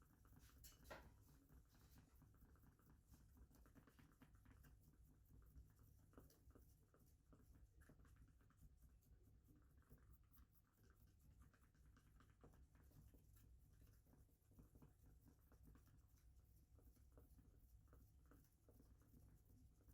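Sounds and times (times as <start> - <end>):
faint light scratching and ticking: 0.0 - 19.9.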